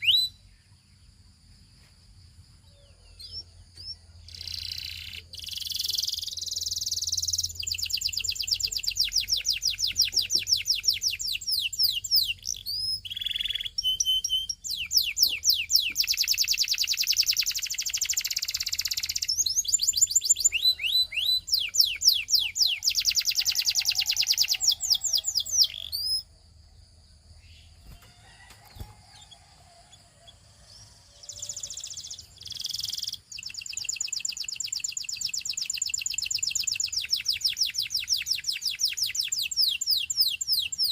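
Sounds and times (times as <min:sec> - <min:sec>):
canary singing rapid trills: 0:02.8 - 0:26.4, 0:27.4 - 0:40.9.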